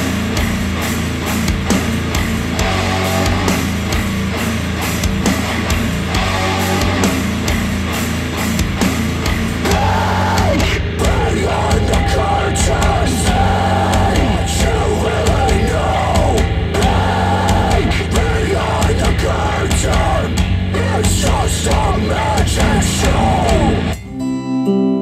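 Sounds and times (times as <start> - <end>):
harsh vocals: 0.0 - 24.0
drums: 0.0 - 24.4
heavy distorted guitars: 0.0 - 25.0.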